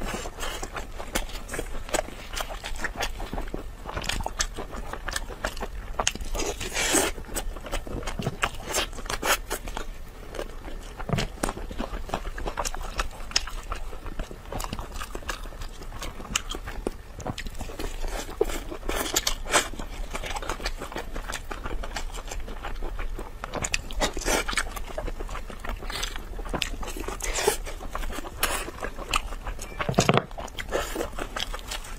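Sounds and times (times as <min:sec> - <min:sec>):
close-miked eating and chewing: 0:00.0 - 0:31.9.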